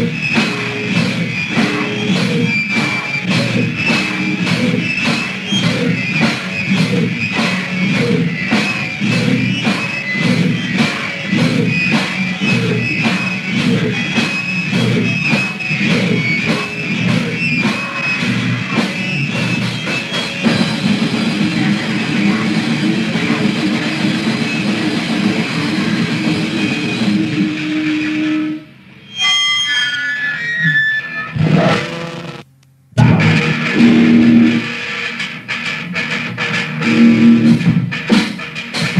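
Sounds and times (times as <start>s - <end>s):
bass guitar: 0.0s - 28.6s, 30.3s - 38.9s
drum kit: 0.0s - 29.4s, 31.3s - 38.9s
picked guitar notes: 0.0s - 38.2s
distorted electric guitar: 0.0s - 38.9s.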